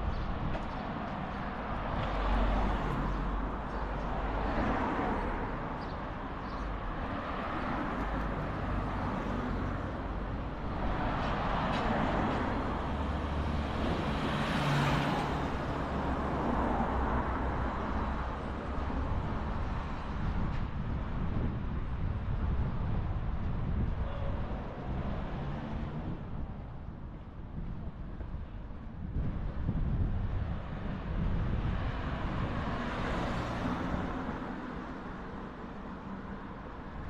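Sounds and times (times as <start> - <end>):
cars passing: 0.0 - 37.0
low traffic rumble: 0.0 - 37.0.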